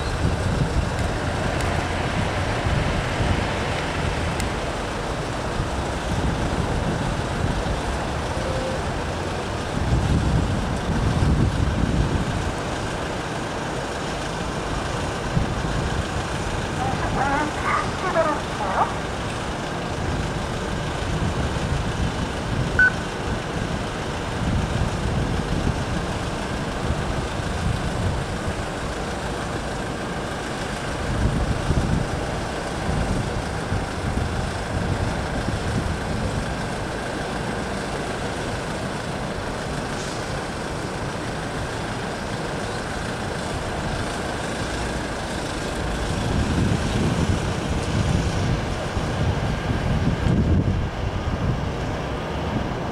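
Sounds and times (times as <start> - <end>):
truck engine low rumble: 0.0 - 52.9.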